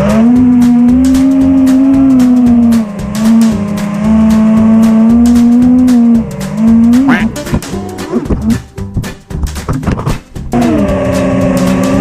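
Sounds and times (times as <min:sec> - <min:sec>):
drone motors whining: 0:00.0 - 0:08.7, 0:10.6 - 0:12.0
background music with beat: 0:00.0 - 0:12.0.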